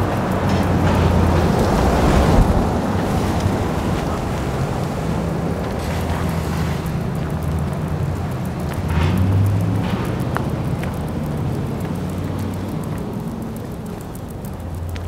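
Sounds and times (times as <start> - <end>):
car road and tyre rush: 0.0 - 15.0.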